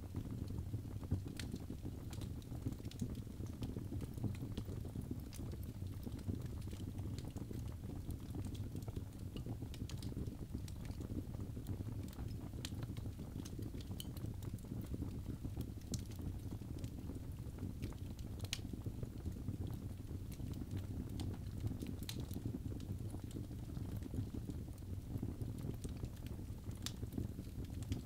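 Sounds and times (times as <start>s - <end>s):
fire crackling and popping: 0.0s - 28.0s
fire flames rumbling: 0.1s - 28.0s.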